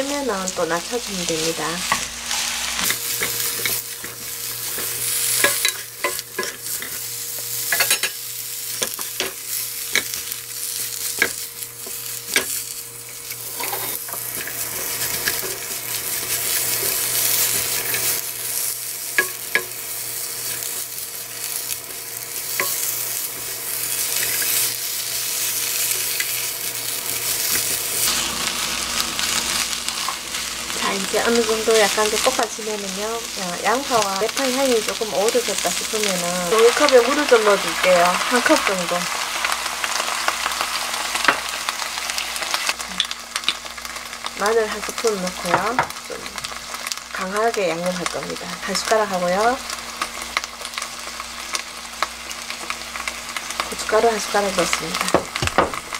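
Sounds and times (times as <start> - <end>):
food sizzling in oil: 0.0 - 55.9.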